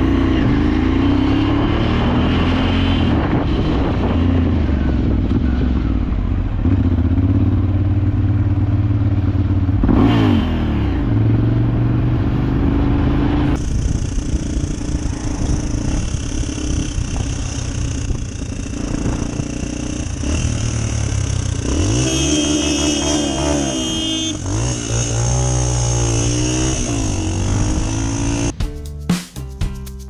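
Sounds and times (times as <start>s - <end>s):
motorcycle engine shifting gears: 0.0s - 28.6s.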